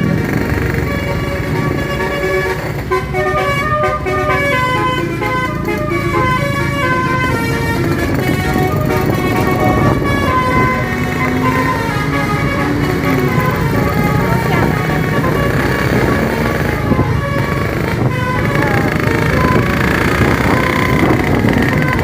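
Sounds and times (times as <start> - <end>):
bus engine rumble: 0.0 - 22.0
multi-tone bus horn playing a tune: 0.0 - 22.0.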